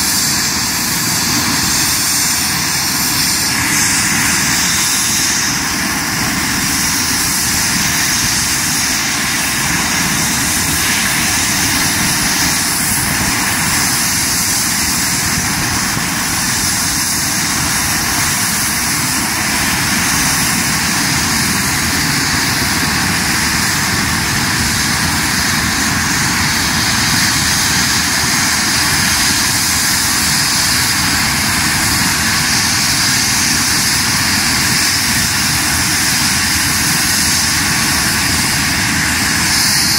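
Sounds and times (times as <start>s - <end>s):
helicopter turbine and rotor noise: 0.0s - 39.9s.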